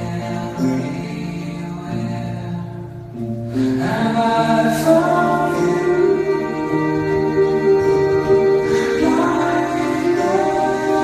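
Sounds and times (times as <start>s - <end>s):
slow sung song: 0.0s - 11.0s.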